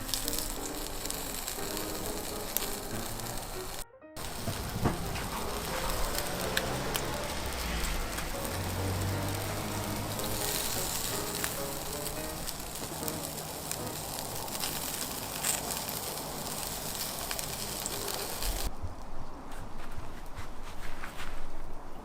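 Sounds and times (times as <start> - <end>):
sharp crackles: 0.0 - 18.7
skewers sizzling over charcoal: 0.0 - 18.7.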